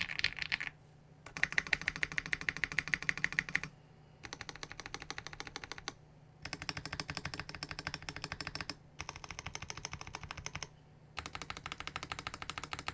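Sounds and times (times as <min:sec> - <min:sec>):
fast typing on mechanical keyboard: 0:00.0 - 0:00.7, 0:01.3 - 0:12.9.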